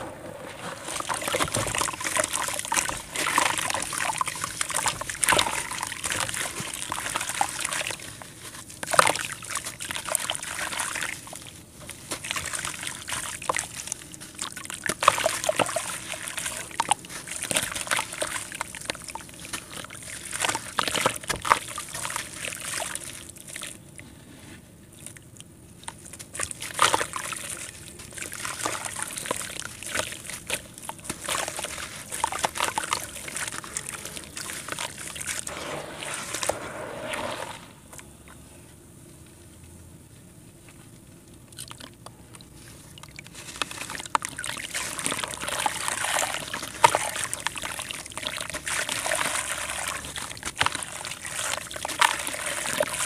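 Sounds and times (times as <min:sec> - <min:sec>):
muddy water sloshing: 0:00.0 - 0:23.8, 0:24.9 - 0:37.8, 0:41.5 - 0:53.0.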